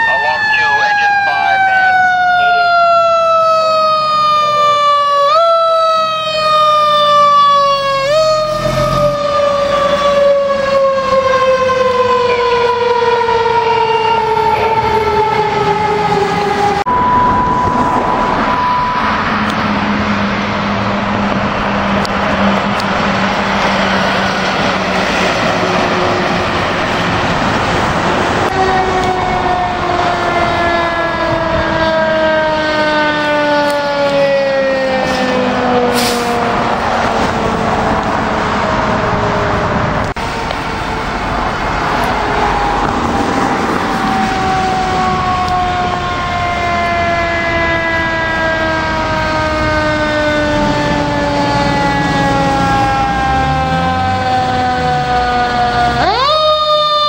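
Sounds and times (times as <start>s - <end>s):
fire engine siren winding down: 0.0s - 57.0s
rushing traffic and engines: 0.0s - 57.0s.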